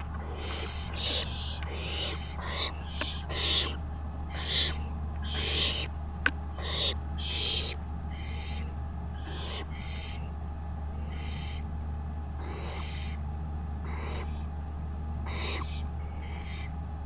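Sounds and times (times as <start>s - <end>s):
owls rasping hissing calls: 0.0s - 10.3s, 11.0s - 11.7s, 12.4s - 13.2s, 13.8s - 14.5s, 15.2s - 16.7s
steady low hum: 0.0s - 17.0s.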